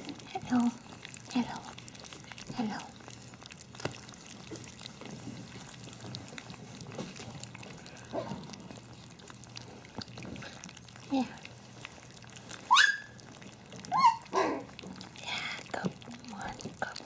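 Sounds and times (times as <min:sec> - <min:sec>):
puppies lapping and chewing: 0:00.0 - 0:17.0.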